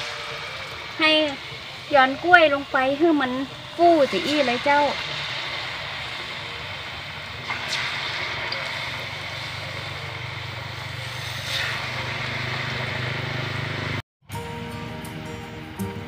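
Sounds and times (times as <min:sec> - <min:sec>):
banana slices sizzling in oil: 0:00.0 - 0:14.0.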